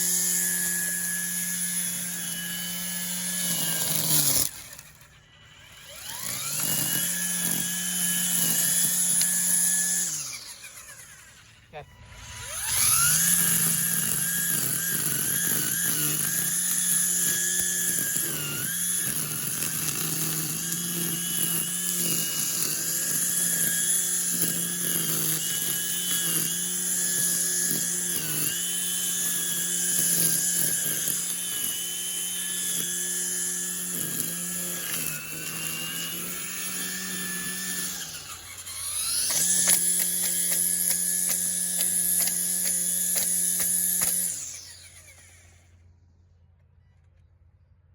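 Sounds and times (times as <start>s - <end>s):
string trimmer whining: 0.0s - 45.9s.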